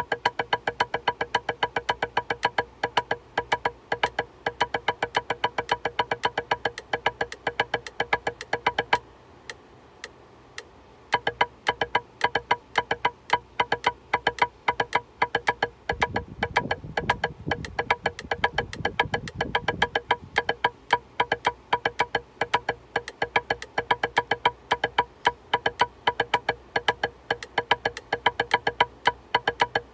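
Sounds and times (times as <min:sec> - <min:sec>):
drumsticks on practice pad: 0:00.0 - 0:29.9.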